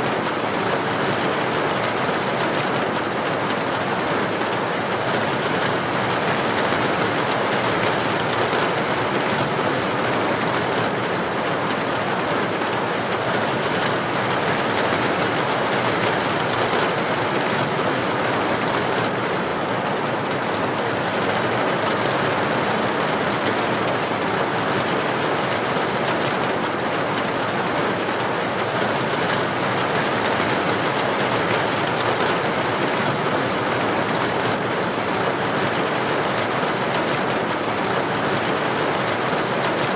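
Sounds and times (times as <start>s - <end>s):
heavy rain pouring on street: 0.0s - 39.9s.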